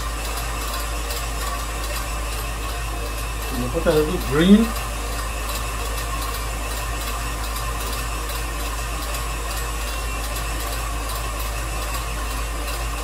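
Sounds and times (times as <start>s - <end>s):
stand mixer motor whirring: 0.0s - 13.0s.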